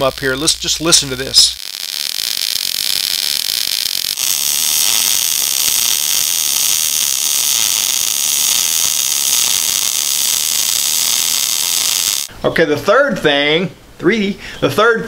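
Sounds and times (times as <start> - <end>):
welding arc crackling: 0.0 - 12.3.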